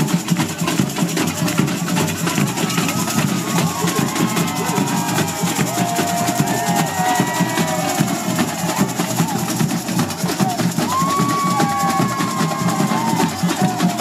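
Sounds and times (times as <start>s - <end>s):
samba drums playing: 0.0s - 14.0s.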